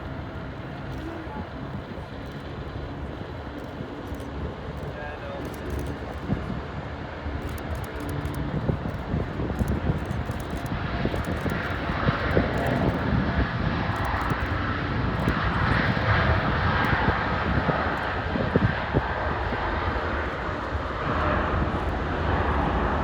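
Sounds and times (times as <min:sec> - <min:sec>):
jet engine high whine: 0:00.0 - 0:23.0
jet engine rush: 0:00.0 - 0:23.0
wind buffeting microphone: 0:00.0 - 0:23.0.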